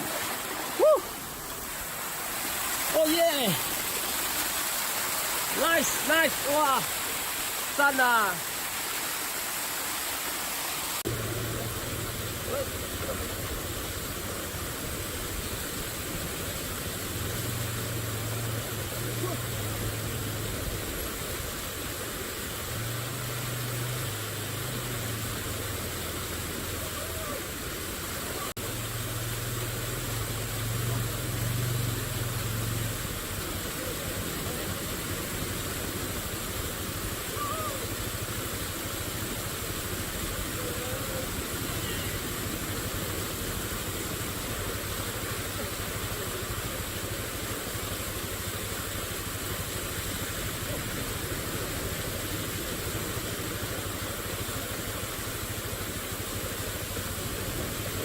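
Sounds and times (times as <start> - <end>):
water rushing from waterfall: 0.0 - 58.0.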